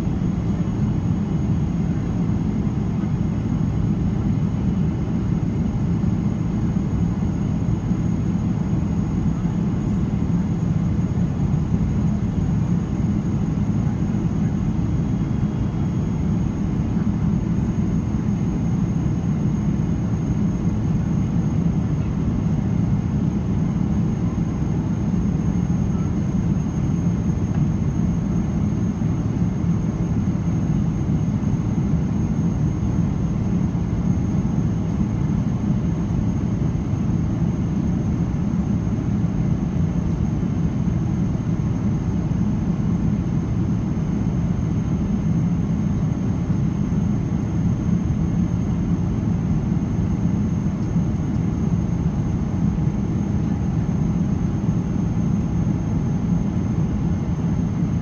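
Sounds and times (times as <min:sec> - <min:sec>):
faint high whine: 0:00.0 - 0:58.0
jet engine and airflow rumble: 0:00.0 - 0:58.0.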